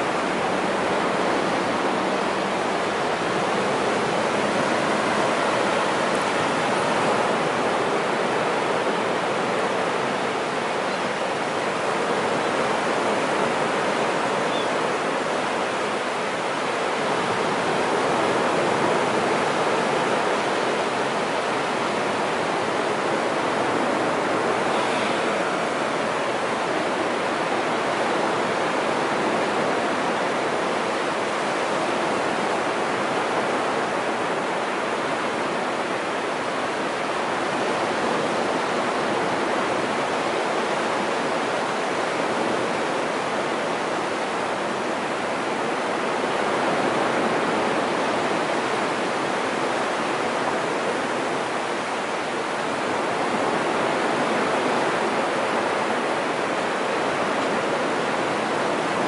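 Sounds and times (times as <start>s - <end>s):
surf washing up a beach: 0.0s - 59.0s.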